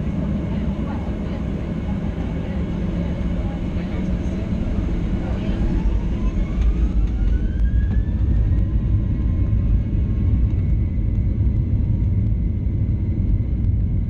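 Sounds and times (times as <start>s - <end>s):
heavy engine rumble: 0.0s - 14.0s
jet engine fan whine: 0.0s - 14.0s.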